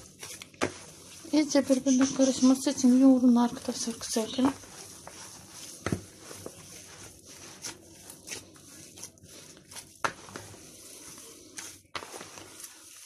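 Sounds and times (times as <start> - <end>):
meat squelching and slapping: 0.0 - 13.0.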